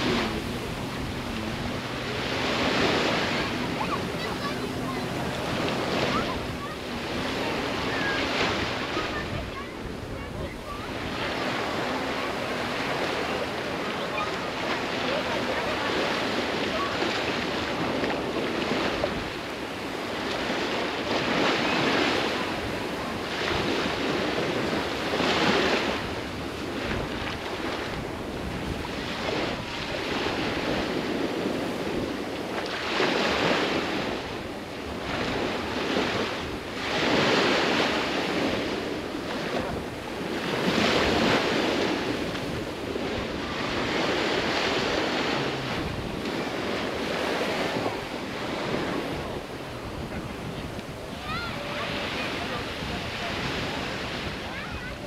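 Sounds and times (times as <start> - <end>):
sea waves breaking on a beach: 0.0 - 55.0.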